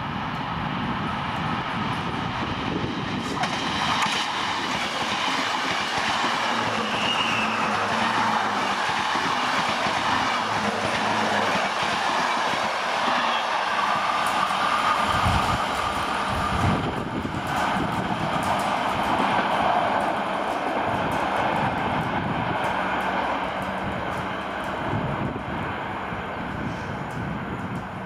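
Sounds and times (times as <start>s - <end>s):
train wheels rushing on rails: 0.0s - 28.0s
wheels clicking over rail joints: 1.4s - 28.0s.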